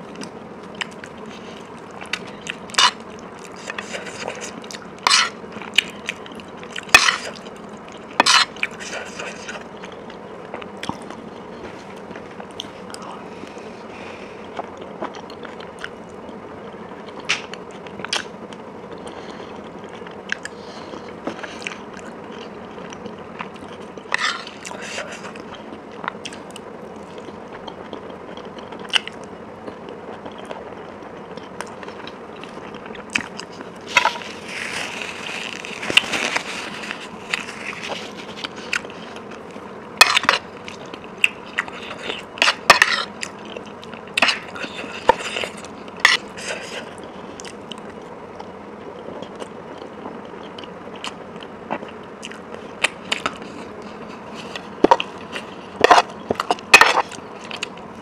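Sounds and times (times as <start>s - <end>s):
biting and chewing food: 0.0s - 13.1s, 14.4s - 58.0s.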